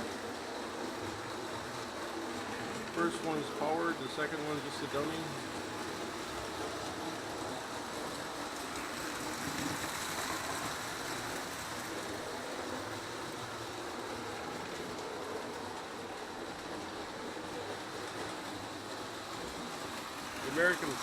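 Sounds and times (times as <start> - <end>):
model trains running on track: 0.0 - 21.0.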